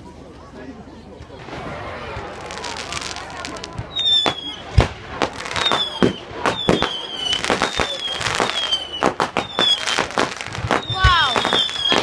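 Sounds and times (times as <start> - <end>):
firework bangs: 1.4 - 12.0
firework whistles: 1.7 - 12.0.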